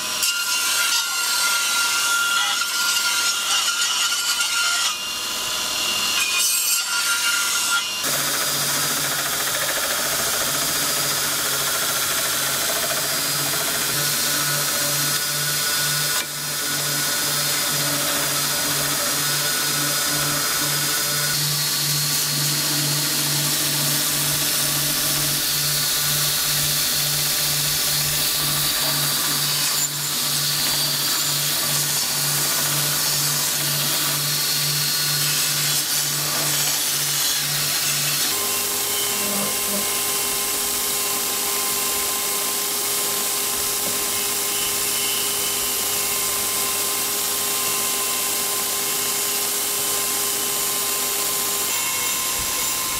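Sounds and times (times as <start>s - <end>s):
power grinder grinding steel: 0.0s - 52.9s.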